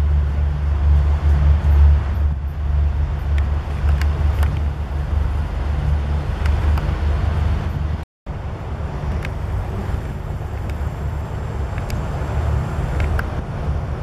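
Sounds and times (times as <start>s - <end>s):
distant highway traffic rumble: 0.0s - 14.0s.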